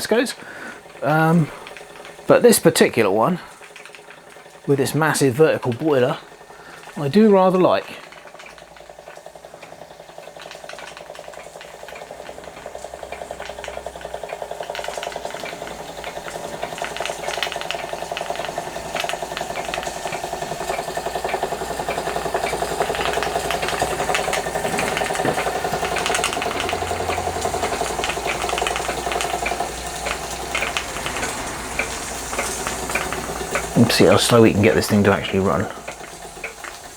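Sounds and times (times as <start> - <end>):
model steam engine exhaust puffs: 0.0 - 36.9.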